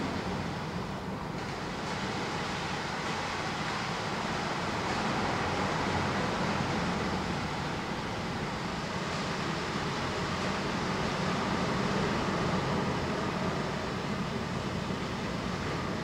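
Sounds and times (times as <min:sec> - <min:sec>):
underwater rushing water: 0:00.0 - 0:16.0.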